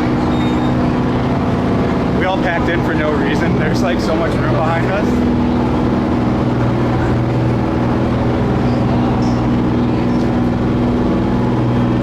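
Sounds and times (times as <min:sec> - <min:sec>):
ferry engine humming: 0:00.0 - 0:12.0.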